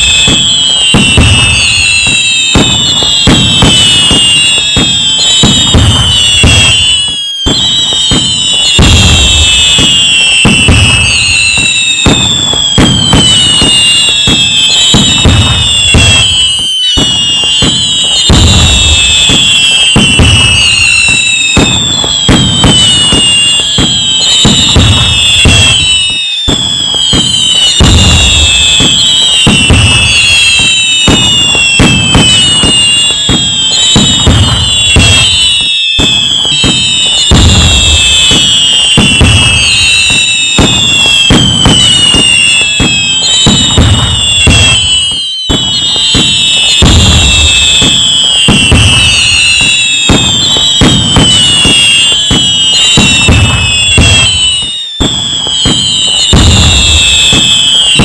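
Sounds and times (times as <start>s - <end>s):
firework bangs and booms: 0.0s - 58.0s
whistling fireworks: 0.0s - 58.0s.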